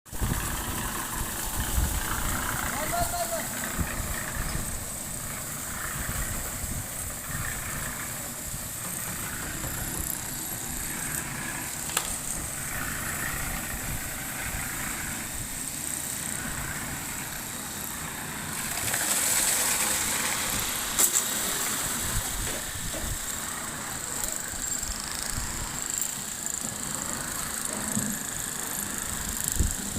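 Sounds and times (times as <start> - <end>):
excavator engine running: 0.1 - 29.9
hissing noise: 0.1 - 29.9.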